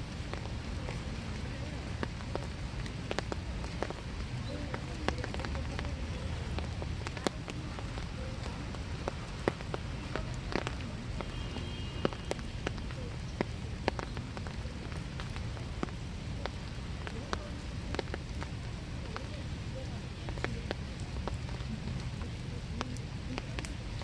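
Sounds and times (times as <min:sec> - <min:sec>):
raindrops tapping: 0:00.0 - 0:24.0
steady rain hiss: 0:00.0 - 0:24.0.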